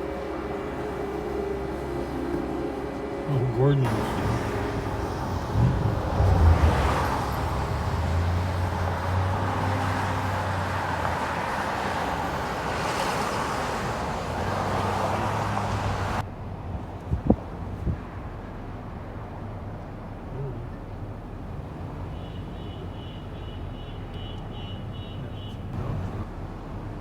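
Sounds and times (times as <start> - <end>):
car road noise: 0.0 - 27.0
passing traffic: 0.0 - 27.0.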